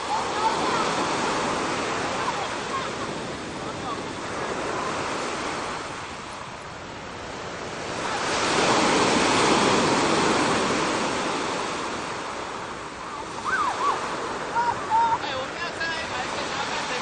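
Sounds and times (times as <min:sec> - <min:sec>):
ocean wave breaking: 0:00.0 - 0:17.0.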